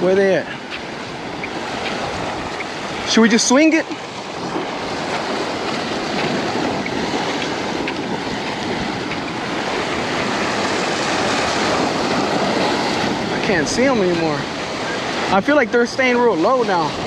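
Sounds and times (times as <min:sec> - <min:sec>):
surf washing against rocks: 0:00.0 - 0:17.0.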